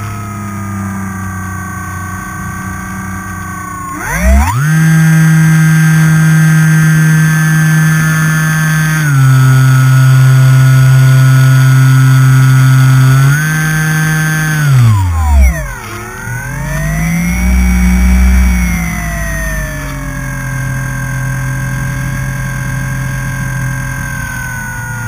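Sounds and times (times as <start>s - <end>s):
electric motor and propeller whining: 0.0s - 25.0s.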